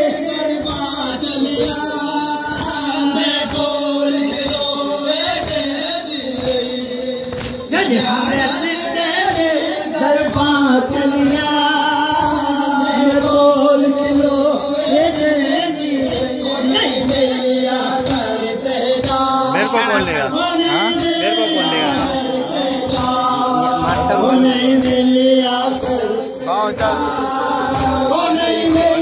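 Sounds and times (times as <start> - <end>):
men singing a lament: 0.0 - 29.0.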